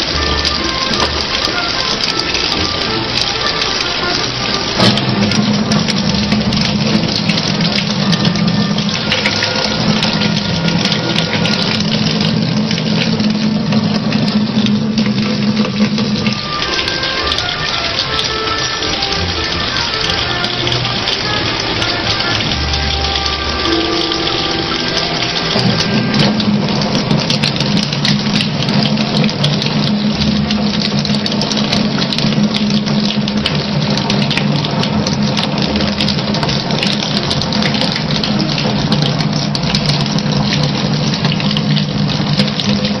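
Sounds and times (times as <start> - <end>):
tap water running into sink: 0.0 - 43.0.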